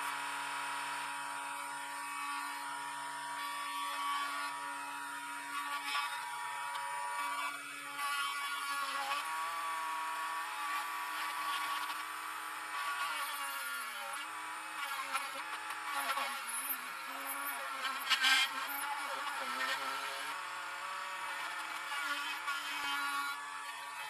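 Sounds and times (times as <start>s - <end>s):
mini drill whirring: 0.0s - 24.0s.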